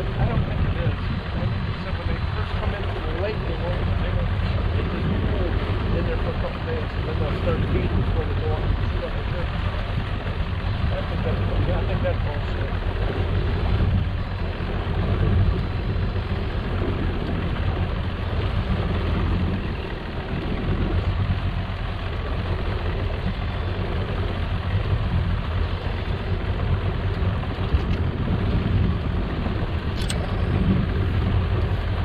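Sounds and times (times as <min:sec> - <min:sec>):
boat engine running: 0:00.0 - 0:32.0
wind and water hiss: 0:00.0 - 0:32.0.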